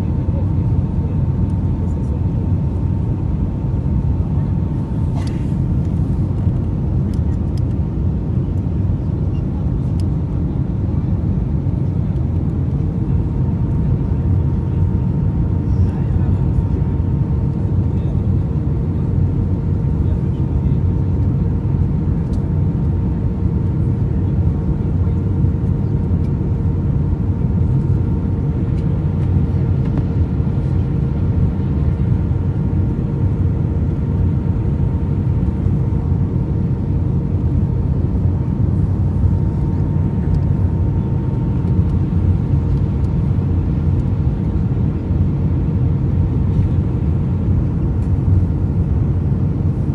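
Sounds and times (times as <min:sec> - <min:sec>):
constant cabin hum: 0:00.0 - 0:49.9
jet engines and airflow rumble: 0:00.0 - 0:49.9.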